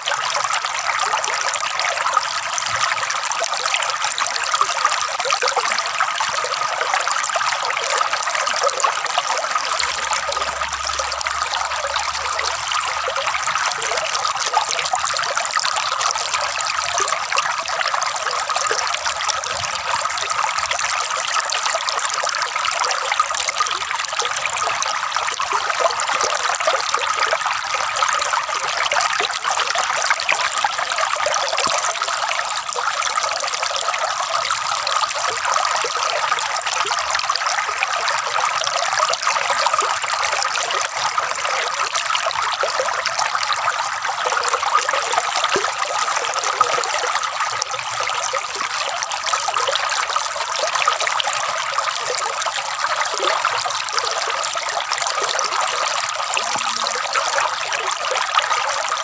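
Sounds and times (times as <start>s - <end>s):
water trickling and gurgling: 0.0s - 59.0s.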